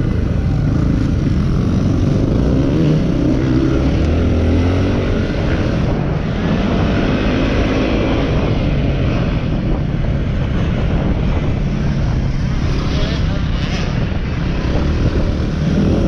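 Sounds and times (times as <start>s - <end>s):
motorcycle engine revving: 0.0s - 16.0s
wind noise on microphone: 0.0s - 16.0s.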